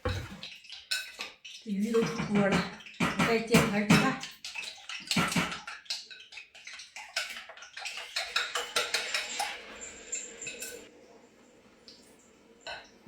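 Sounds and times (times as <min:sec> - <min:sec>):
pots and utensils clattering: 0:00.0 - 0:10.9.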